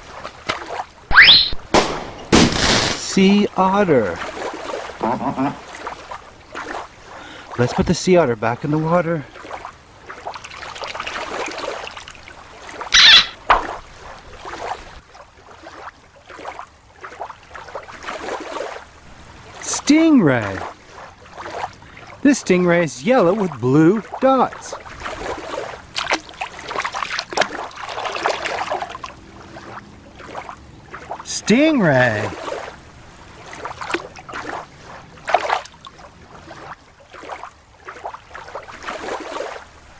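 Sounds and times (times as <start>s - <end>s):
water splashing: 0.0s - 7.9s, 8.6s - 39.9s.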